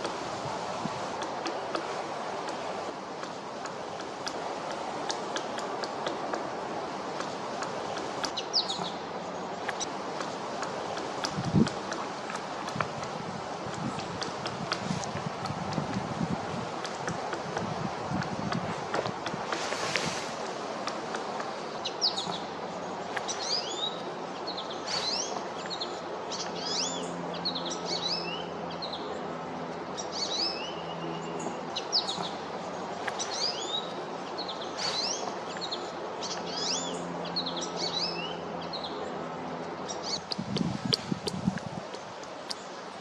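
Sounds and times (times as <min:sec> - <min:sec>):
outdoor background noise: 0:00.0 - 0:43.0
small birds chirping: 0:01.2 - 0:43.0.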